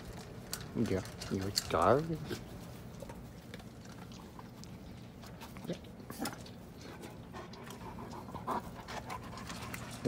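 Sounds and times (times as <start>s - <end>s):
puppy sniffing and snuffling: 0.0s - 10.0s.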